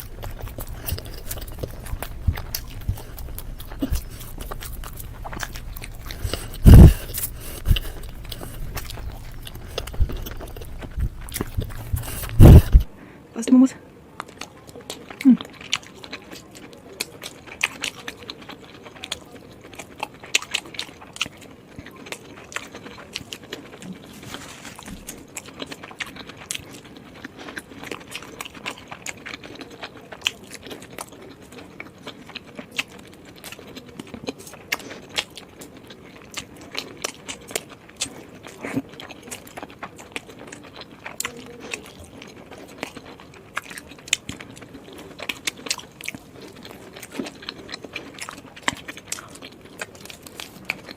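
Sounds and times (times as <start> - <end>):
person chewing with wet clicks: 0.0 - 13.0, 14.2 - 24.1, 24.9 - 50.9.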